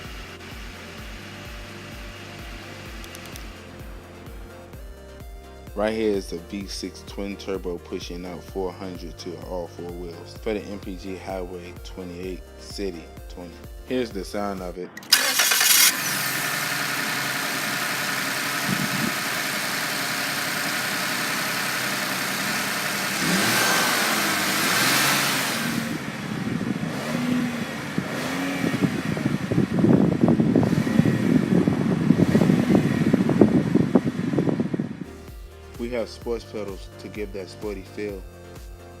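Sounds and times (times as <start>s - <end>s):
car engine idling and revving: 0.0s - 12.4s, 14.9s - 39.0s.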